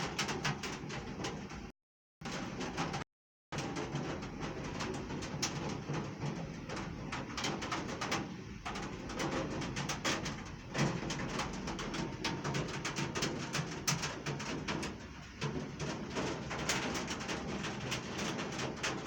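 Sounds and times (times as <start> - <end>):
heavy rain on hard surface: 0.0 - 1.7, 2.3 - 3.0, 3.6 - 19.0.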